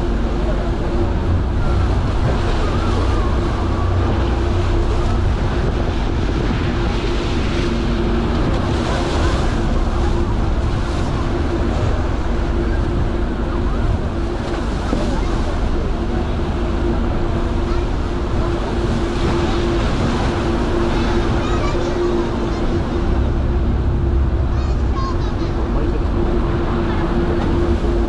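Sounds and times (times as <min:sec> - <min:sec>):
ship engine hum: 0:00.0 - 0:28.0
water current churning: 0:00.0 - 0:28.0
wind buffeting microphone: 0:00.0 - 0:28.0.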